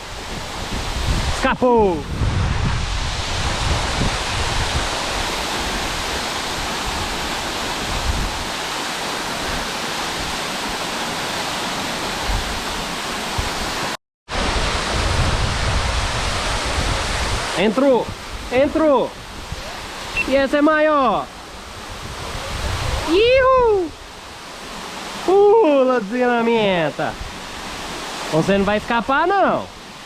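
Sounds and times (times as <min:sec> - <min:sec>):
waterfall roaring: 0:02.8 - 0:30.0.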